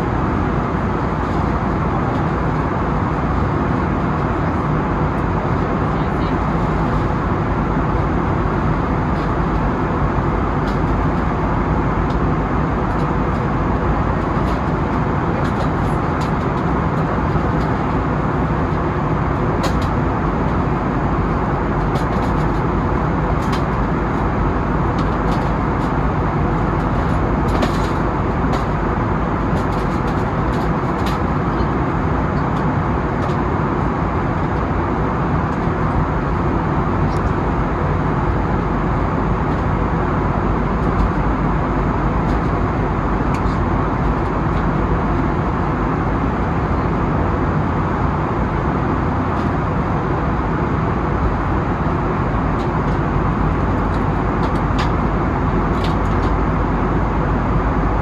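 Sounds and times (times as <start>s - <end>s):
airliner cabin engine and airflow noise: 0.0s - 58.0s.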